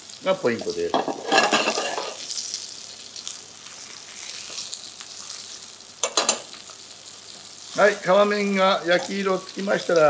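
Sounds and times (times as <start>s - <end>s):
chicken sizzling in frying pan: 0.0s - 10.0s.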